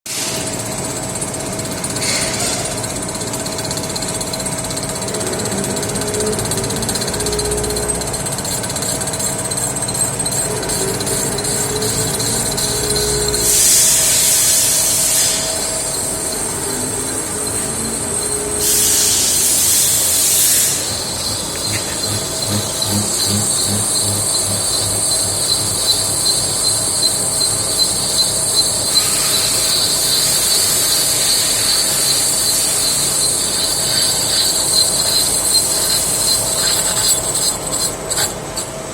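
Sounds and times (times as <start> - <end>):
lathe cutting metal whine: 0.5 - 38.9
regular pulsing hiss: 6.3 - 38.3.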